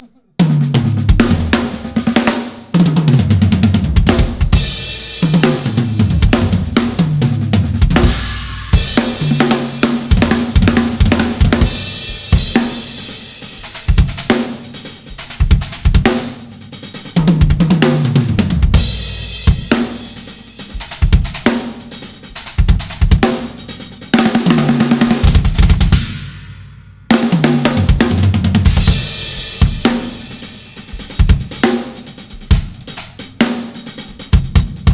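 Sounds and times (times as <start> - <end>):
acoustic drum kit played hard: 0.0 - 34.9.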